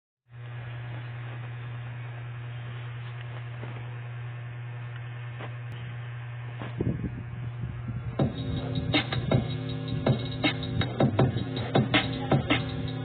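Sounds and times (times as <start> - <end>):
steady low hum: 0.3 - 13.0.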